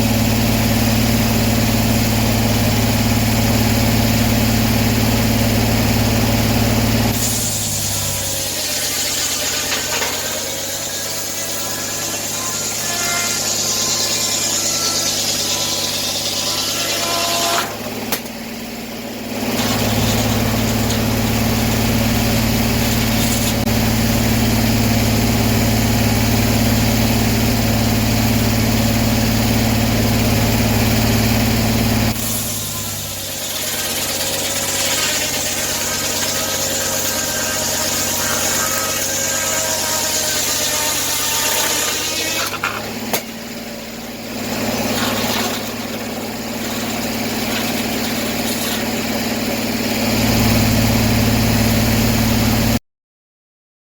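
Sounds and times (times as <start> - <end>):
saw cutting log: 0.0 - 52.7
sawmill engine running: 0.0 - 52.8.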